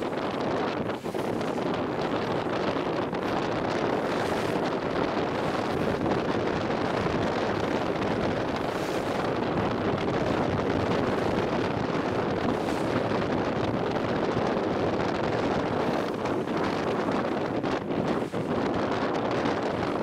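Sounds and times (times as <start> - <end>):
boat engine rushing: 0.0 - 20.0
water rushing: 0.0 - 20.0
wind buffeting microphone: 0.0 - 20.0.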